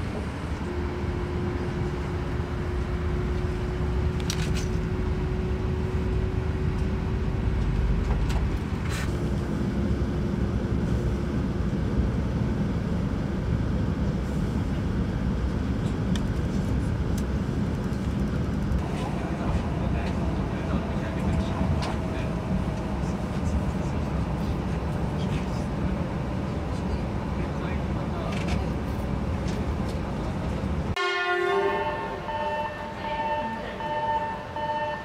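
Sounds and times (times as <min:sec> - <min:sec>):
train cabin low rumble: 0:00.0 - 0:35.0.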